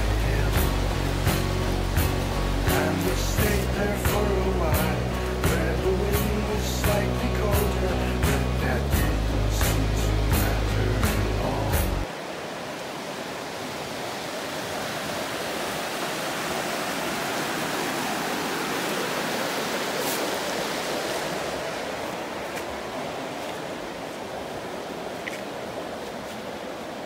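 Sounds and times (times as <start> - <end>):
stream rushing over rapids: 0.0 - 27.0.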